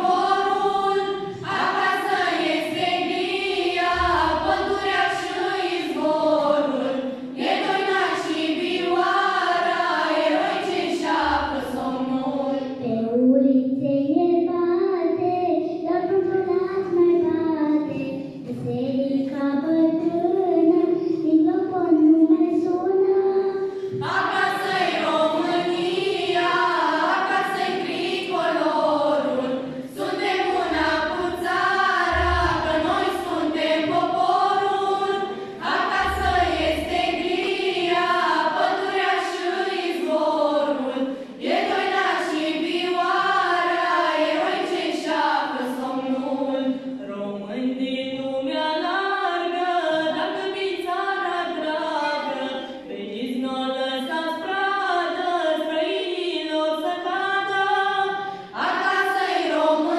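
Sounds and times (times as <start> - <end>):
children's choir singing: 0.0 - 12.9, 14.6 - 59.9.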